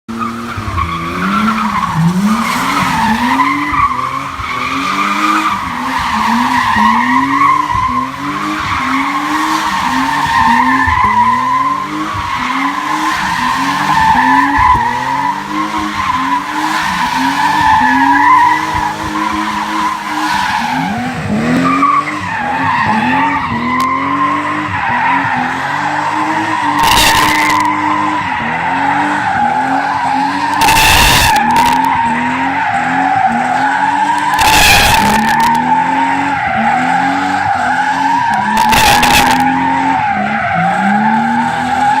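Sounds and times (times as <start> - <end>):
car engine revving: 0.1 - 42.0.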